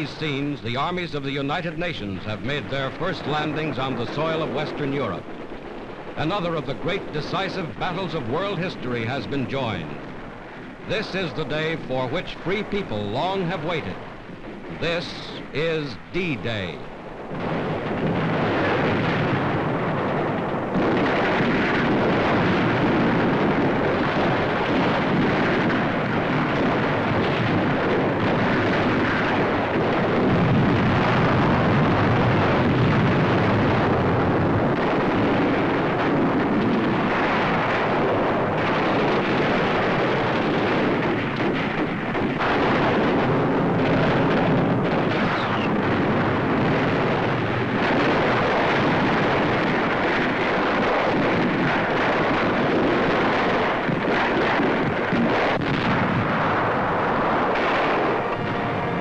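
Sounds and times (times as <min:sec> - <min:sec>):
explosions: 0:00.0 - 0:59.0
gunfire: 0:00.0 - 0:59.0.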